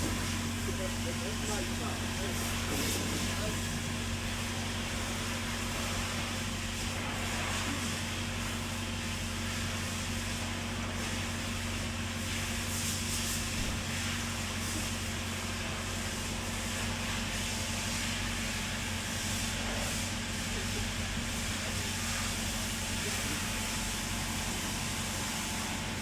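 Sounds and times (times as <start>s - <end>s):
vehicle hum and hiss: 0.0s - 26.0s.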